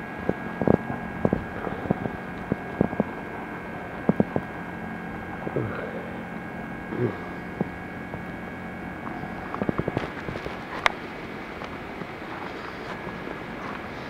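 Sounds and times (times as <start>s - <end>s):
electronic hum: 0.0s - 14.0s.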